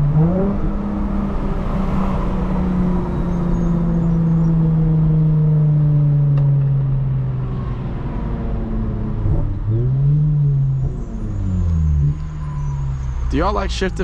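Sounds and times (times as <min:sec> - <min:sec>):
car engine while driving: 0:00.0 - 0:14.0.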